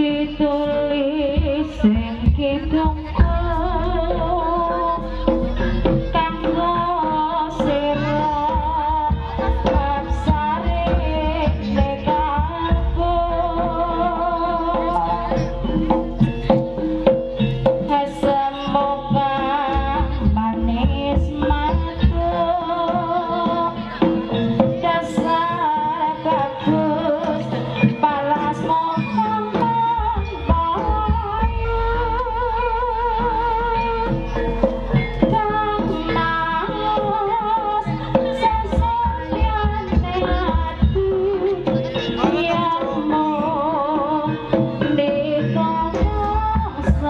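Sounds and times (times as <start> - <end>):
gamelan ensemble music: 0.0 - 47.0
person singing wavering melody: 0.0 - 47.0.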